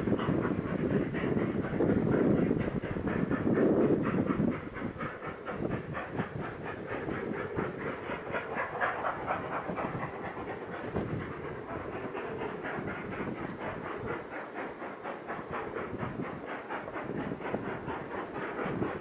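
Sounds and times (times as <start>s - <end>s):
steam locomotive exhaust chuffing: 0.0s - 19.0s.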